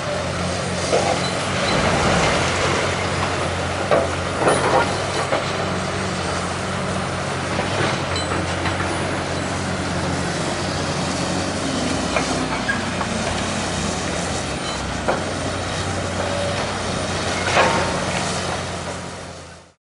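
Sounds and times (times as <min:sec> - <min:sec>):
excavator diesel engine running: 0:00.0 - 0:19.8.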